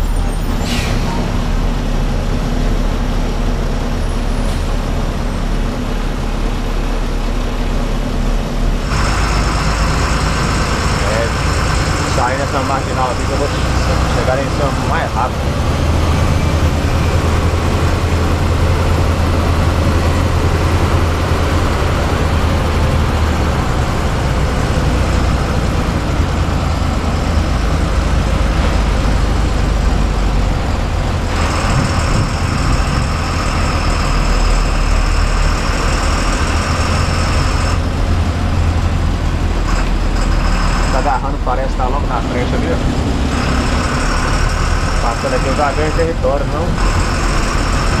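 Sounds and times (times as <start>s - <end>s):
diesel engine drone: 0.0s - 48.0s.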